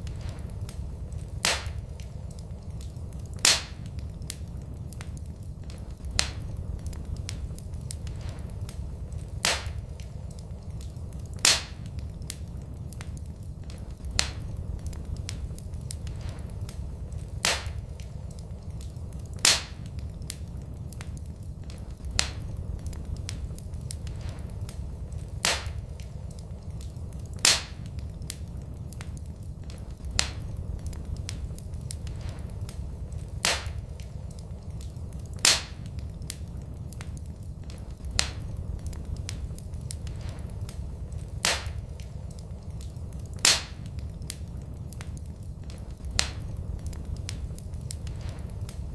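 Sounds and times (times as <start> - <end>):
loud sharp pops of fire: 0.0 - 48.9
wood fire crackling: 0.0 - 48.9.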